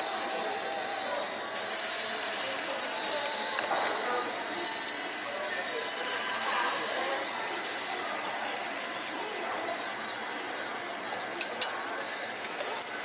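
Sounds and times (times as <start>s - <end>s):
batter sizzling on a griddle: 0.0s - 13.0s.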